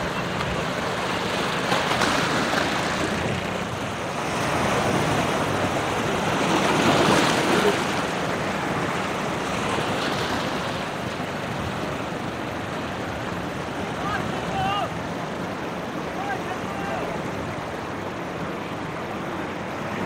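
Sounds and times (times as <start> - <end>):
surf breaking among boulders: 0.0 - 17.4.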